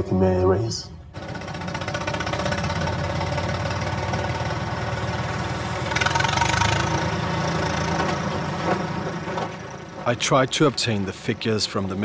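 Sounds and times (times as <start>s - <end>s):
diesel engine driving past: 1.2s - 12.0s.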